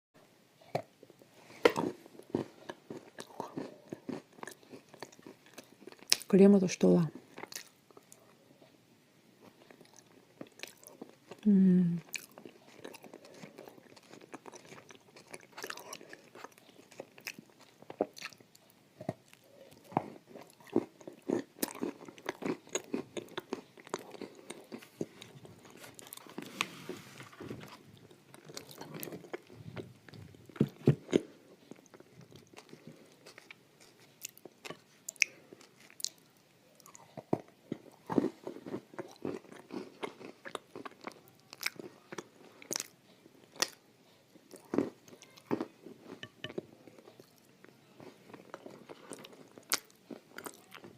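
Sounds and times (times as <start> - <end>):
chewing crunchy food: 0.6 - 6.4, 7.1 - 8.8, 9.4 - 50.9.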